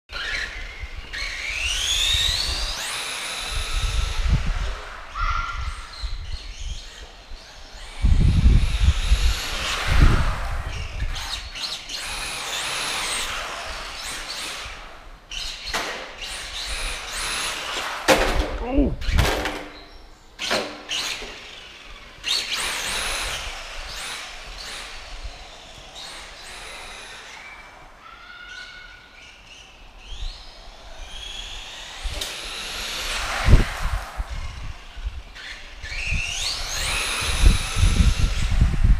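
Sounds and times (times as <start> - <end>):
toy car electric motor whining: 0.1 - 18.1, 20.9 - 38.9.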